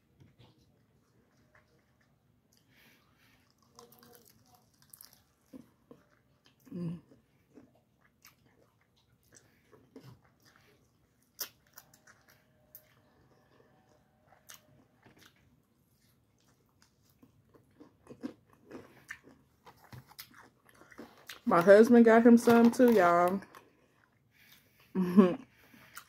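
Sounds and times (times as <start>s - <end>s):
chewing chicken wing: 0.3s - 21.7s.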